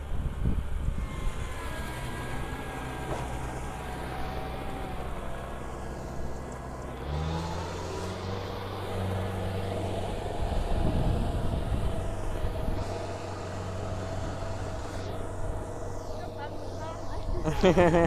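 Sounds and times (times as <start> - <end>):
diesel engine running: 0.0 - 18.0
faint whine: 0.0 - 18.0.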